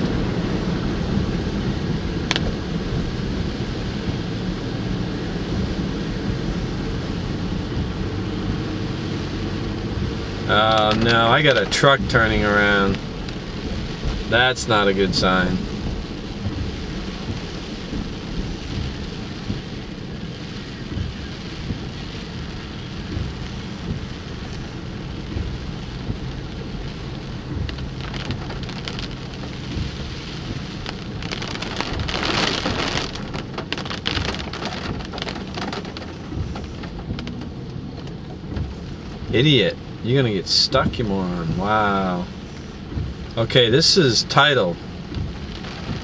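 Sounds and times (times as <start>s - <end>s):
heavy rain on a car: 0.0s - 46.0s
low rumble: 0.0s - 46.0s.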